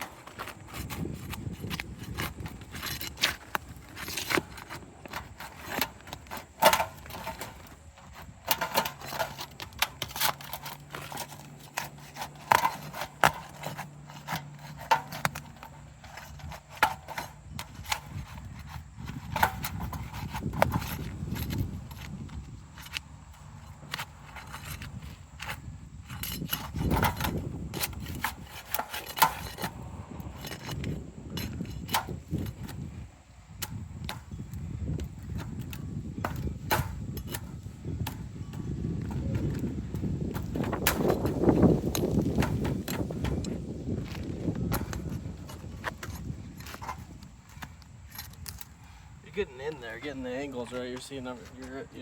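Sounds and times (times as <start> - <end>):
tools scraping roof shingles: 0.0 - 52.0.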